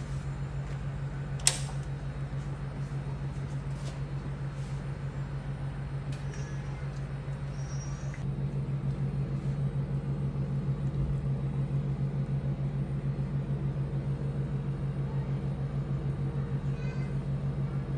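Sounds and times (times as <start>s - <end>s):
pulsing mechanical hum: 0.0s - 17.9s.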